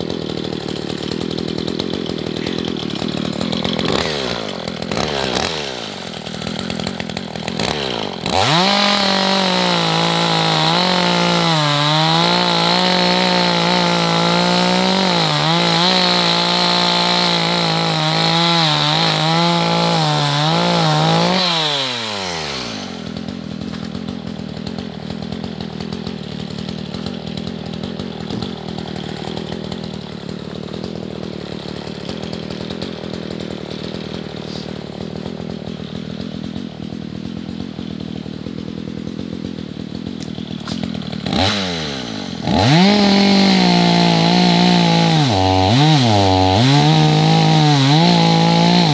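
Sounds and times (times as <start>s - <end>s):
chainsaw cutting through log: 0.0s - 48.9s.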